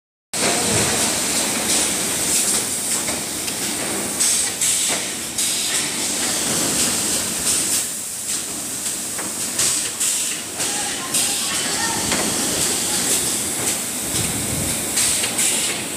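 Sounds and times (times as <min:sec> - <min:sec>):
factory machinery hiss: 0:00.4 - 0:15.9.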